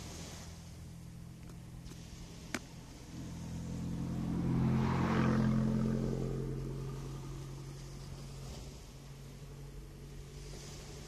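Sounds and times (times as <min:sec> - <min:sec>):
car passing by: 0:00.0 - 0:11.0
steady low hum: 0:00.0 - 0:11.0.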